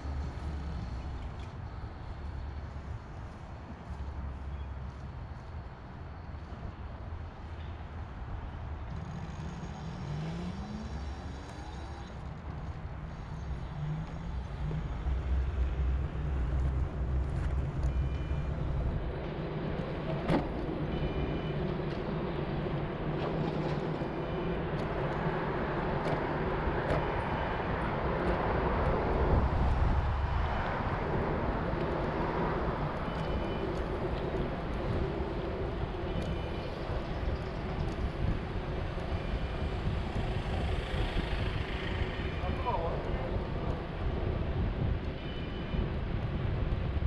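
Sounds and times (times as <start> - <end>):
low rumble of traffic: 0.0 - 47.0.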